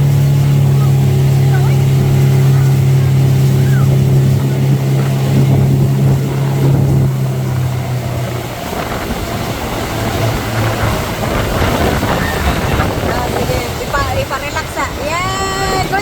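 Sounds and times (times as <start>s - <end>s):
motorboat engine running: 0.0s - 16.0s
rush of wind and water: 0.0s - 16.0s.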